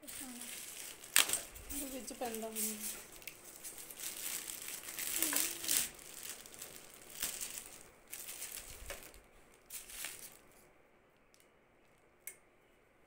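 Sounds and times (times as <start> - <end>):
plastic wrapping crinkling: 0.0 - 10.7.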